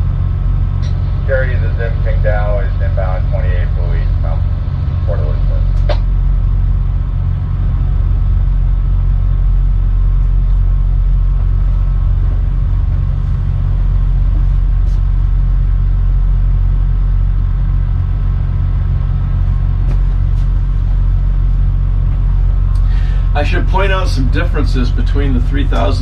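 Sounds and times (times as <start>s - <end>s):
boat diesel engines droning: 0.0s - 26.0s.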